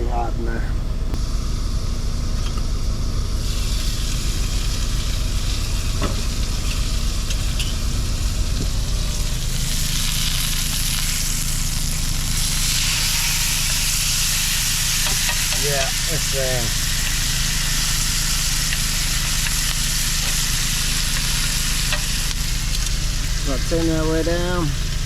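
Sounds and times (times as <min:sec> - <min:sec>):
low steady hum: 0:00.0 - 0:25.0
steak sizzling in frying pan: 0:02.7 - 0:25.0.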